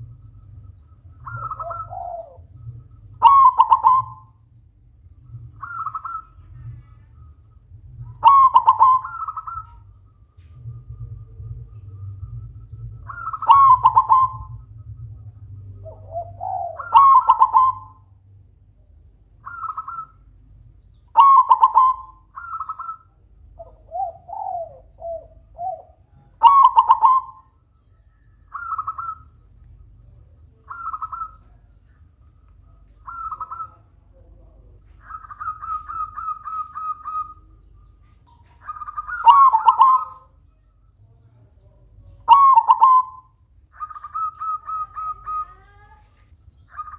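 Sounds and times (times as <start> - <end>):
dove cooing: 0.0 - 4.4, 5.2 - 7.3, 8.0 - 18.1, 19.4 - 20.2, 21.1 - 27.7, 28.3 - 40.4, 41.8 - 46.9.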